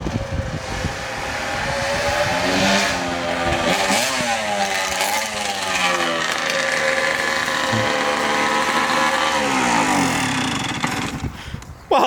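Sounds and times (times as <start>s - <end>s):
dirt bike engine revving: 0.0s - 11.4s.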